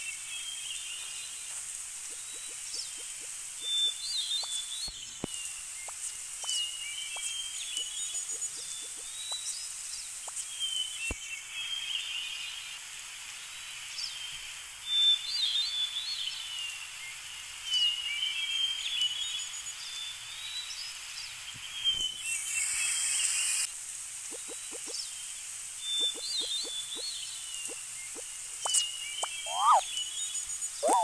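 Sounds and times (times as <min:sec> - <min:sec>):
songbirds chirping: 0:00.0 - 0:22.8, 0:24.2 - 0:31.0
steady outdoor hiss: 0:00.0 - 0:31.0.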